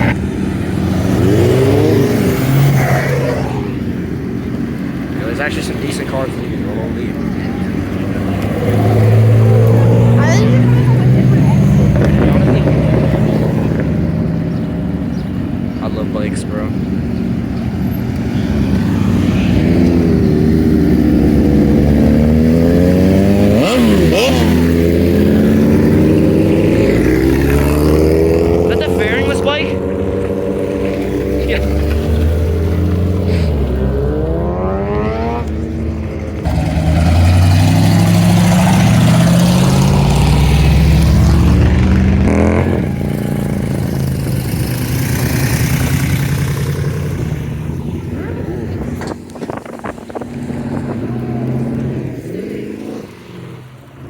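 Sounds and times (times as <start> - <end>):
vehicle engine pulling away: 0.0 - 54.0.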